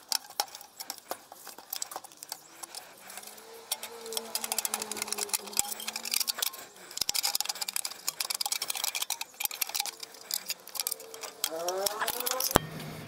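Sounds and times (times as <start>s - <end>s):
metallic clicking of hand tools: 0.0s - 12.6s.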